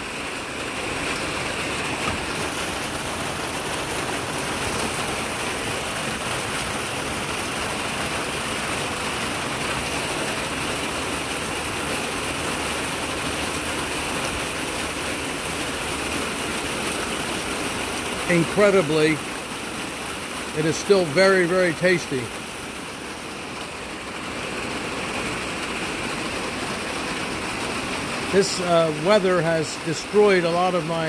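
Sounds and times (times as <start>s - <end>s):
heavy rain on a greenhouse roof: 0.0s - 31.0s.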